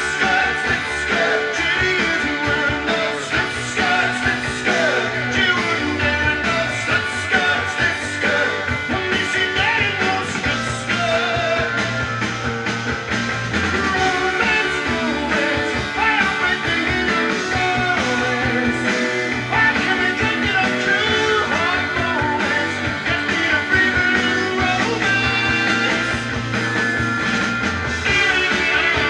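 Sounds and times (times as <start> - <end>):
music from vinyl record: 0.0 - 29.0.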